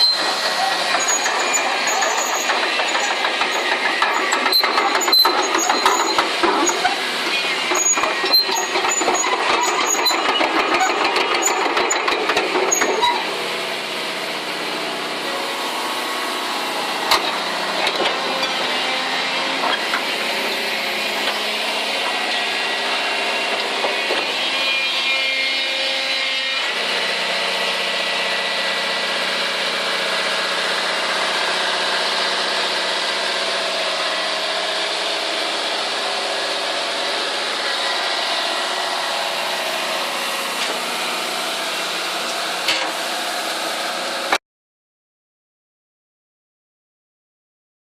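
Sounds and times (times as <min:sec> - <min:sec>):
excavator diesel engine running: 0:00.0 - 0:44.4.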